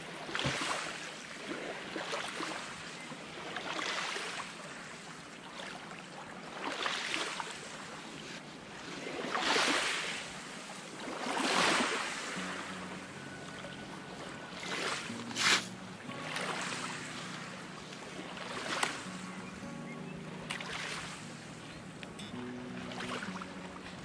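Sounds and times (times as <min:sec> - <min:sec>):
small waves lapping on shore: 0:00.0 - 0:24.0.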